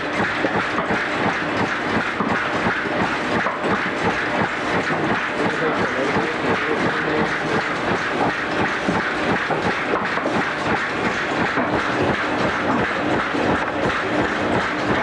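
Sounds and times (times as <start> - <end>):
workshop machinery clattering: 0.0 - 15.0.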